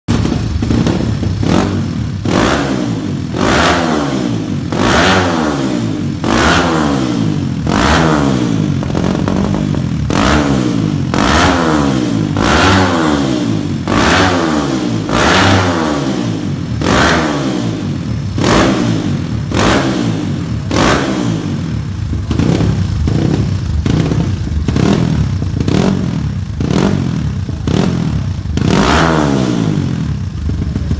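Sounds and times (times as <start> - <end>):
dirt bike engine revving: 0.1 - 30.9.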